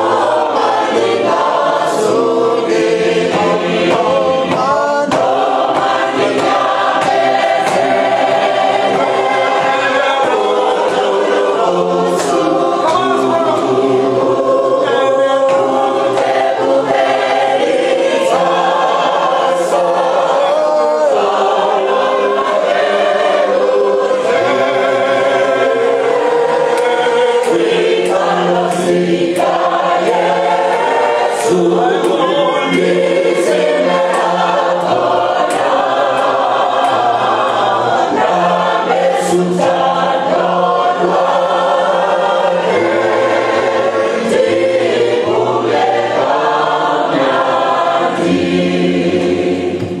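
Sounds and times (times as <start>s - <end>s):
congregation singing a hymn: 0.0s - 50.0s.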